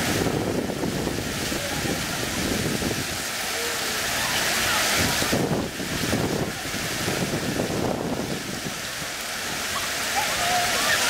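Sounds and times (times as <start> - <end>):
wind buffeting microphone: 0.0 - 3.4, 4.0 - 11.0
fountain water splashing: 0.0 - 11.0.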